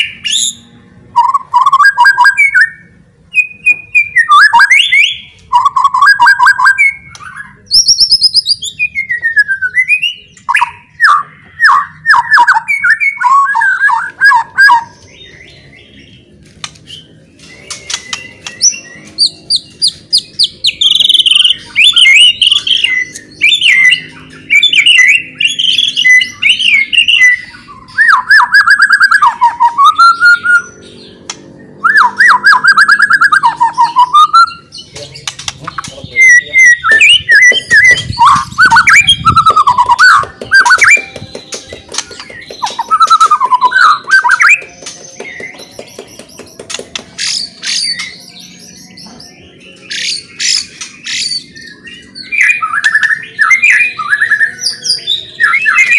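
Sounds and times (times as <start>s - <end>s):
songbird singing varied song: 1.2s - 55.9s.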